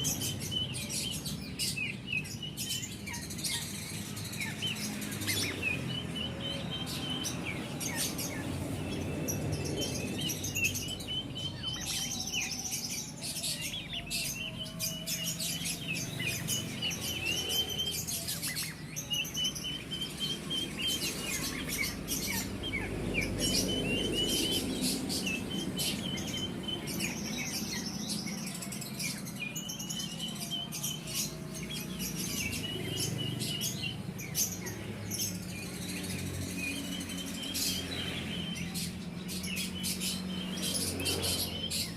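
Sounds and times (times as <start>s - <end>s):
songbirds chirping and calling: 0.0s - 41.9s.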